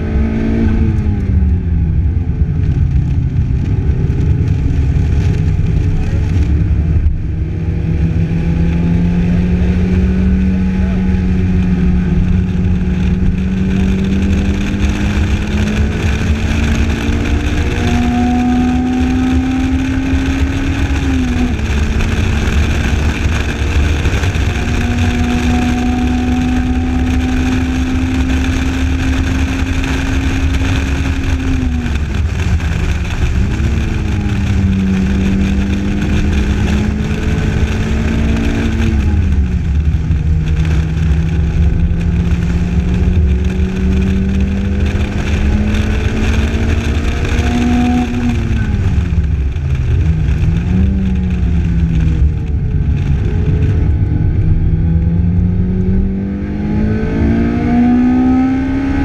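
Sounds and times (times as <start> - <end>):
car engine pulling hard: 0.0 - 59.0
wind rumble: 0.0 - 59.0.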